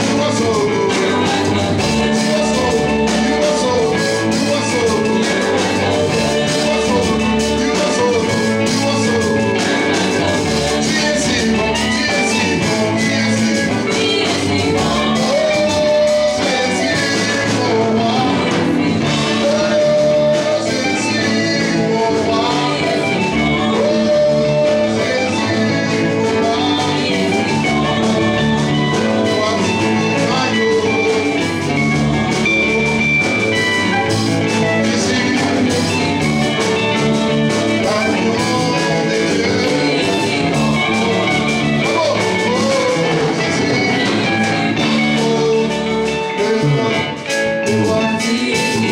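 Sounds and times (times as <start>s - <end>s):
band music with guitar: 0.0s - 48.9s
person singing: 0.0s - 48.9s.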